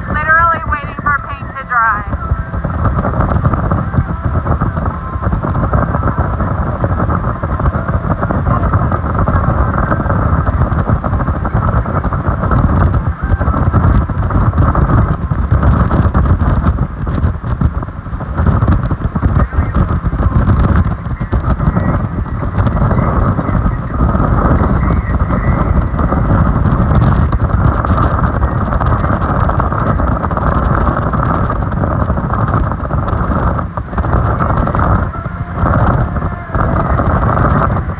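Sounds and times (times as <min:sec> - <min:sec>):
speedboat engine: 0:00.0 - 0:37.9
wind buffeting the microphone: 0:00.0 - 0:37.9.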